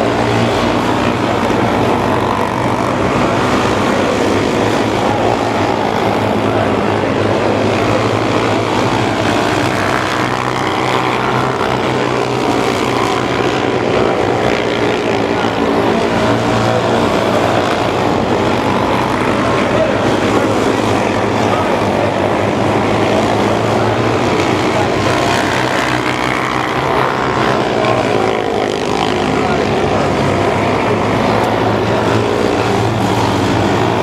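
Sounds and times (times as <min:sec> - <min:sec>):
small race car engines buzzing: 0:00.0 - 0:34.0.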